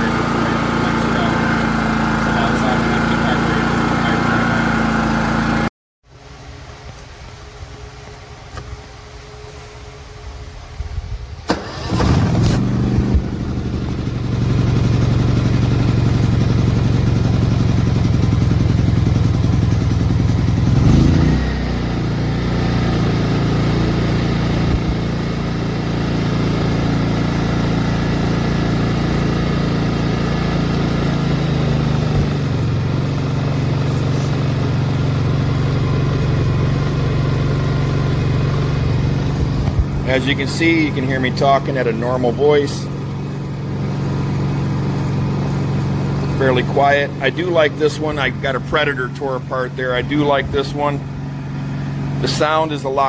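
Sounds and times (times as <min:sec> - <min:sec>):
generator engine starting and running: 0:00.0 - 0:53.0.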